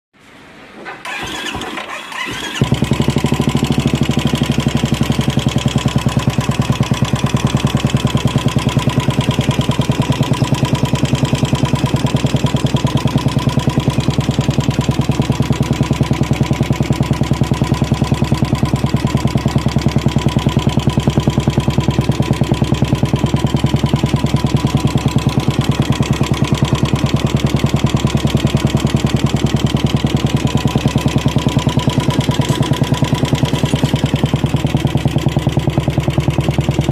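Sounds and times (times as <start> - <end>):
engine ticking: 1.0 - 36.9
motorcycle engine cranking: 1.0 - 36.9
motorcycle engine idling: 1.0 - 36.9.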